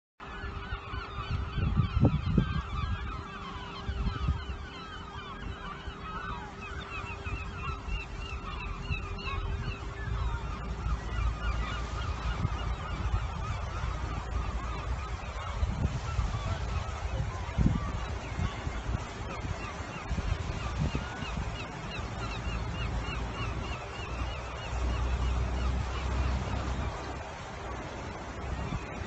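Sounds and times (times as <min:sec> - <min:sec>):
seabirds calling: 0:00.2 - 0:29.0.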